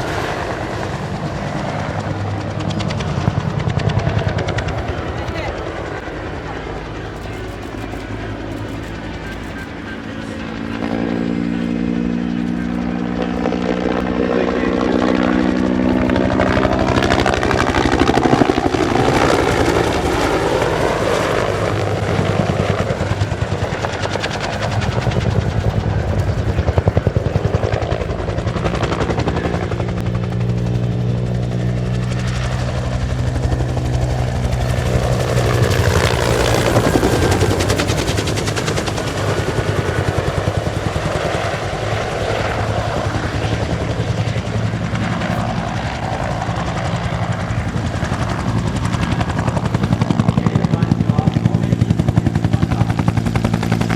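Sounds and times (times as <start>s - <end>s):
helicopter rotor thudding: 0.0s - 53.9s
turbine whine: 0.0s - 53.9s.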